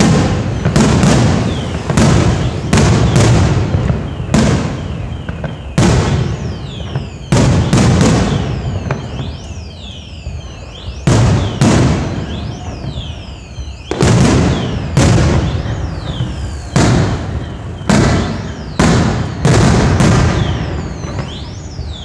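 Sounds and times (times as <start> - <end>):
firework booms: 0.0 - 22.0
firework whistles: 0.0 - 22.0.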